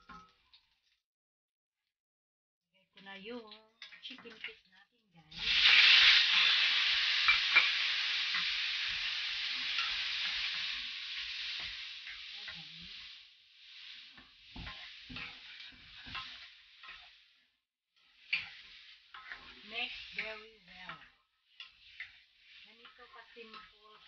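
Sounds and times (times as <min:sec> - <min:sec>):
food sizzling in hot oil: 0:03.3 - 0:24.0
spatula knocking and scraping wok: 0:03.8 - 0:04.7, 0:05.3 - 0:24.0.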